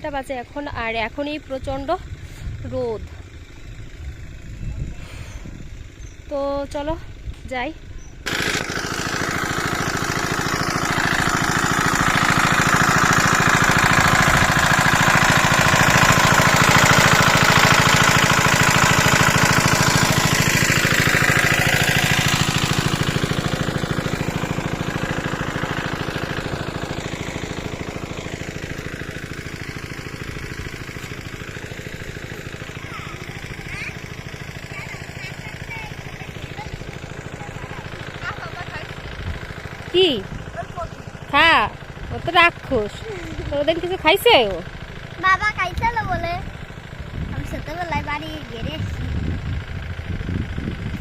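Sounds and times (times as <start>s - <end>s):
engine-driven water pump running: 0.0s - 51.0s.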